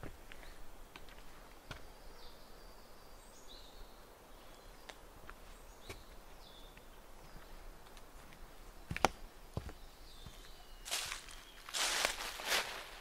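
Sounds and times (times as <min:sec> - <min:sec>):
faint footsteps on trail: 0:00.0 - 0:02.4, 0:04.3 - 0:13.0
woodland ambience: 0:00.0 - 0:13.0.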